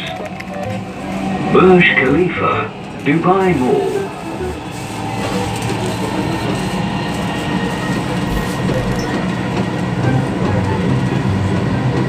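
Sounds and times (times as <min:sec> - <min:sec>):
train rumbling in motion: 0:00.0 - 0:12.0.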